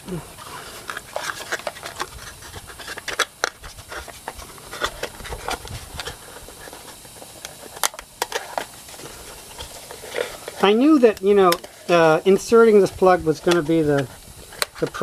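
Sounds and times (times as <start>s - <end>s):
handling clicks and scratches: 0.4s - 15.0s.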